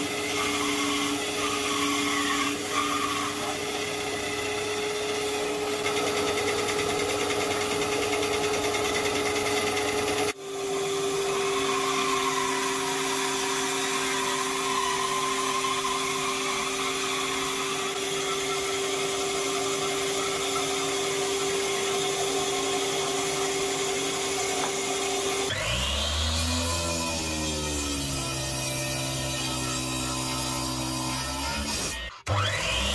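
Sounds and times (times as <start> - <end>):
band saw cutting log: 0.0 - 32.9.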